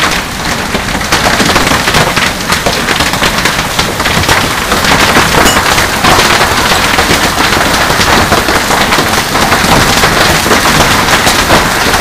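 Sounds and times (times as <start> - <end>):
hail clattering on concrete: 0.0 - 12.0
hail splashing into water: 0.0 - 12.0.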